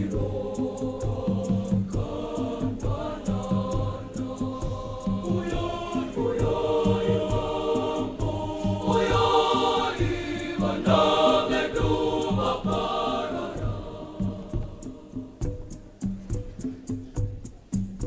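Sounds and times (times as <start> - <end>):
girls' choir singing in harmony: 0.0 - 15.9
steady percussive beat: 0.0 - 18.0.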